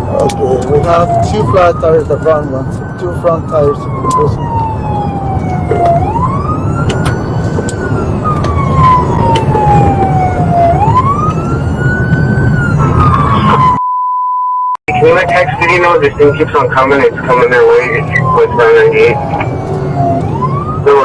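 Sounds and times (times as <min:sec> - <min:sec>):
road and engine rumble: 0:00.0 - 0:13.8, 0:14.9 - 0:21.0
siren wailing: 0:00.0 - 0:13.8, 0:14.9 - 0:21.0.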